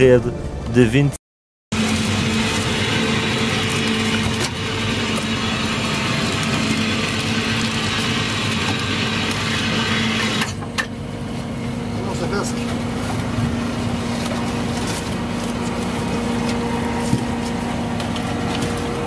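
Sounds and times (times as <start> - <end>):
boat engine droning: 1.7 - 19.0
machinery and water noise: 1.7 - 19.0.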